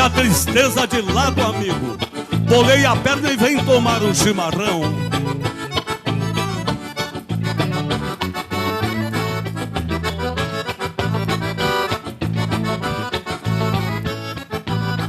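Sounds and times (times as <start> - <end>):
accordion: 0.0 - 15.0
bass notes: 0.0 - 15.0
rhythm accompaniment: 0.0 - 15.0.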